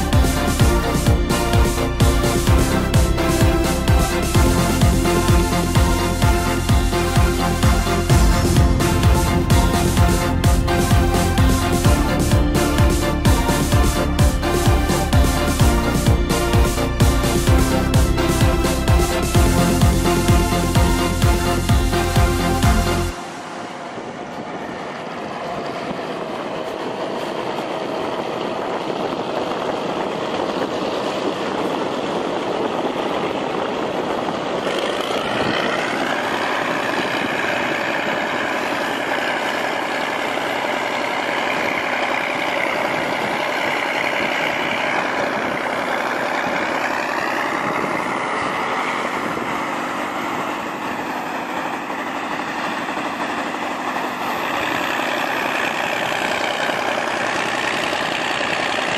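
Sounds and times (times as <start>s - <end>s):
high wavering whine: 0.0s - 58.9s
truck engine and snowblower: 0.0s - 58.9s.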